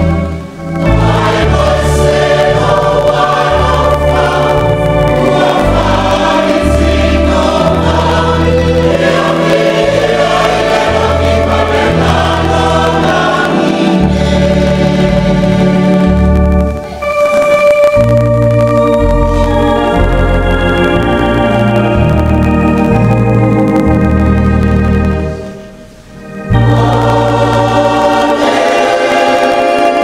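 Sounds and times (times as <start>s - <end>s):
congregation singing a hymn: 0.0s - 30.0s
keyboard bass line: 0.0s - 30.0s.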